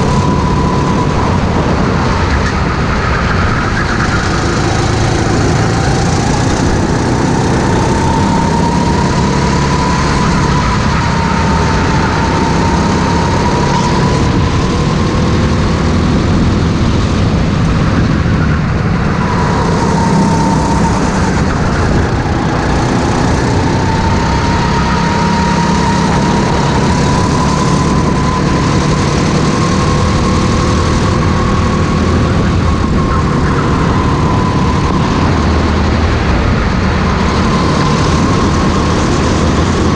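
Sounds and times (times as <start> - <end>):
go-kart engine at full throttle: 0.0 - 39.9.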